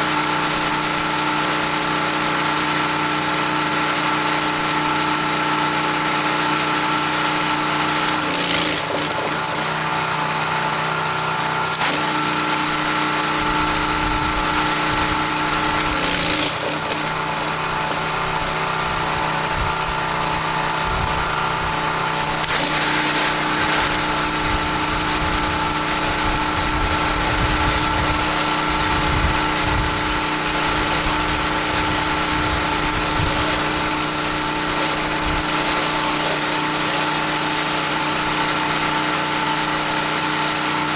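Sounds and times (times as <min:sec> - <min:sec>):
pressure washer engine running: 0:00.0 - 0:40.9
high-pressure water spray hissing: 0:06.1 - 0:10.6, 0:11.6 - 0:40.9.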